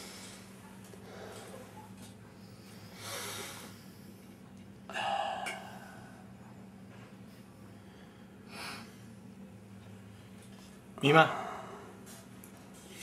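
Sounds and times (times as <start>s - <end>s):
man breathing heavily: 0.0s - 9.3s, 11.2s - 13.0s
faint low hum: 0.0s - 13.0s.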